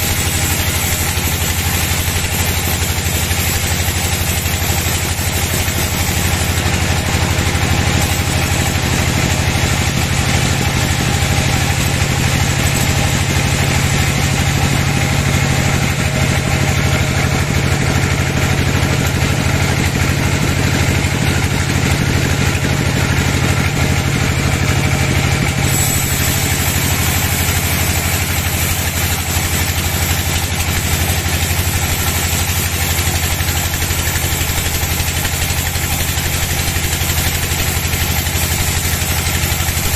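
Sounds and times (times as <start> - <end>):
band saw blade sawing log: 0.0 - 39.9.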